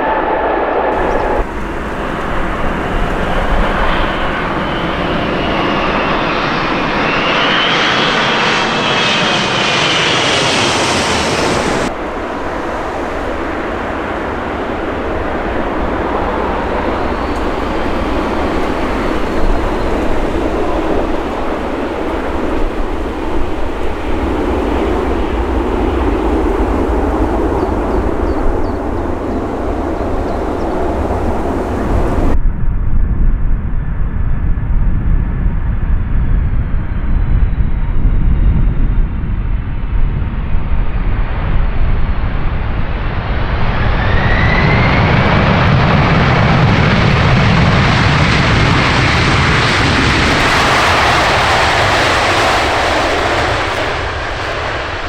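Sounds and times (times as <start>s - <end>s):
engine whine: 0.0s - 32.4s, 42.4s - 55.0s
large aircraft engines passing: 0.0s - 32.4s, 36.7s - 55.0s.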